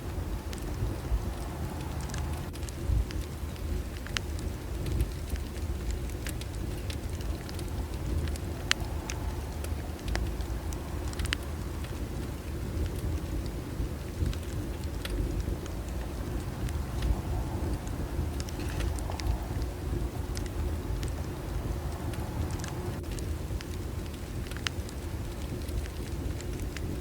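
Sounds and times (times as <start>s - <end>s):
fire rumbling: 0.0s - 27.0s
wood crackling and popping: 0.0s - 27.0s.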